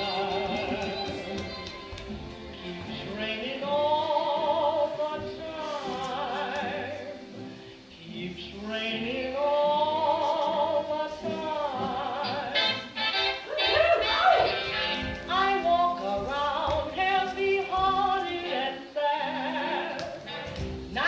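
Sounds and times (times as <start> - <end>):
soft musical accompaniment: 0.0 - 21.0.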